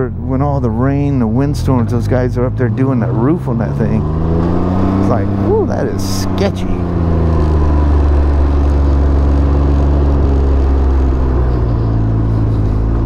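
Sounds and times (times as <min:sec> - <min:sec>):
engine running at low speed: 0:00.0 - 0:13.0.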